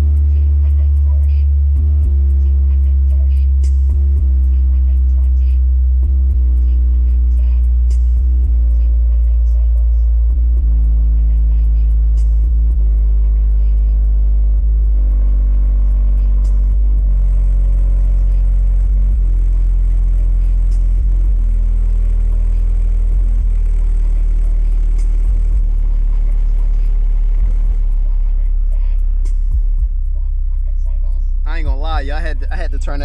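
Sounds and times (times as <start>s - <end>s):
bass test tones from subwoofer: 0.0s - 33.0s.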